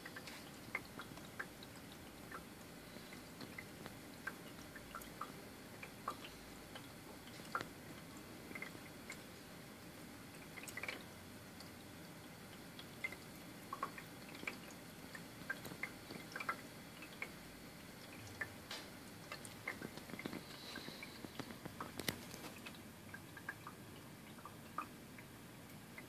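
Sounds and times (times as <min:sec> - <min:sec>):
water dripping: 0:00.0 - 0:26.0.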